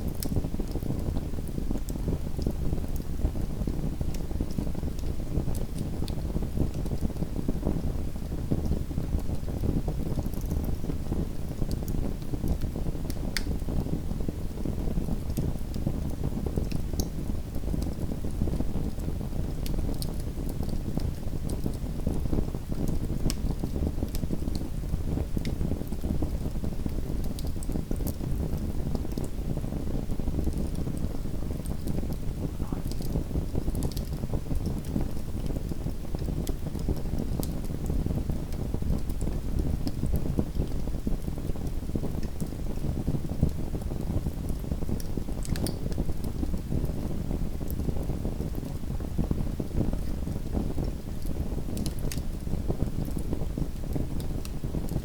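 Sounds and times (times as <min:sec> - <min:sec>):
fire popping and snapping: 0:00.0 - 0:55.0
low rumble of burning fire: 0:00.0 - 0:55.0.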